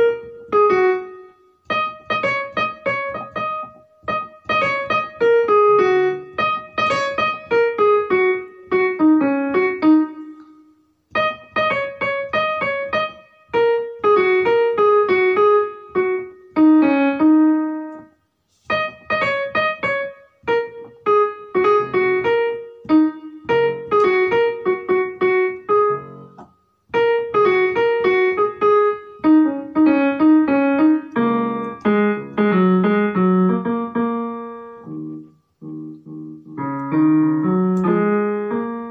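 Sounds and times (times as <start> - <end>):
piano melody: 0.0 - 38.9.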